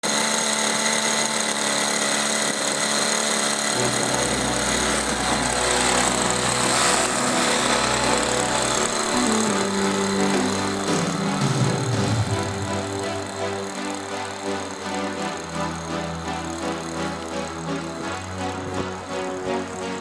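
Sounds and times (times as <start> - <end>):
model jet engine whine: 0.0 - 20.0.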